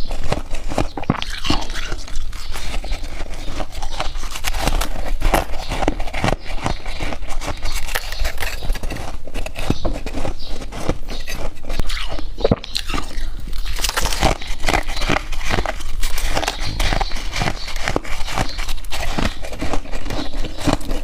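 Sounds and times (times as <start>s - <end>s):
ice crunching being chewed: 0.0s - 21.0s.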